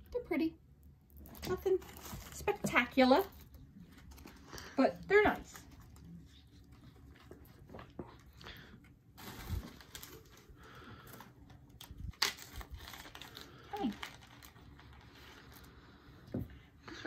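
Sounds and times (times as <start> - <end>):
tissue paper and plastic bag crinkling: 1.2 - 16.1.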